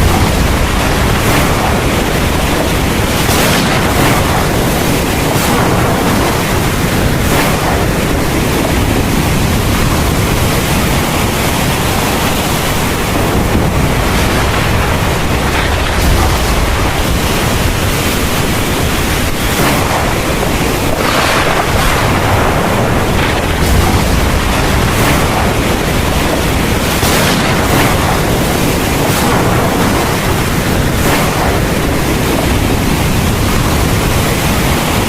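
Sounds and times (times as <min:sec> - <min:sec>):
heavy rain hiss: 0:00.0 - 0:35.0
low rumble of thunder: 0:00.0 - 0:35.0.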